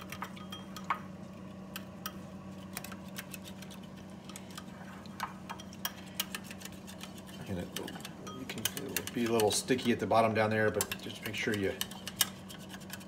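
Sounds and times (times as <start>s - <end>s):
steady low hum: 0.0s - 13.0s
whisk clicking against ceramic bowl: 1.7s - 13.0s.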